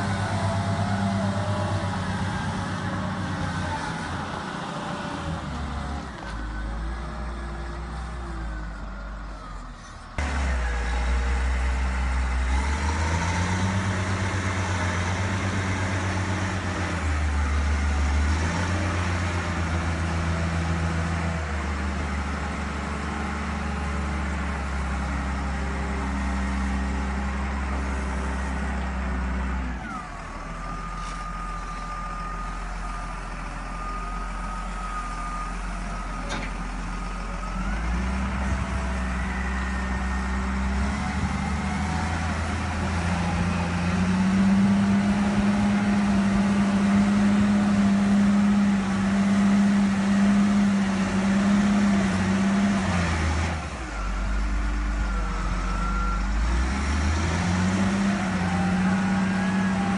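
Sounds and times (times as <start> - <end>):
wheel loader diesel engine: 0.0 - 59.9.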